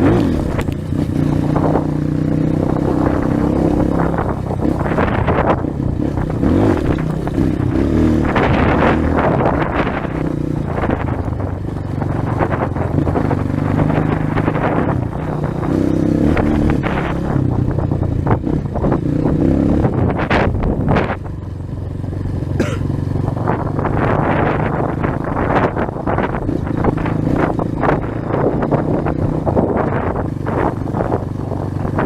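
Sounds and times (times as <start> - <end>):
motorcycle engine revving: 0.0 - 32.0
motorcycle rattles: 0.0 - 32.0
wind rushing on microphone: 0.0 - 32.0.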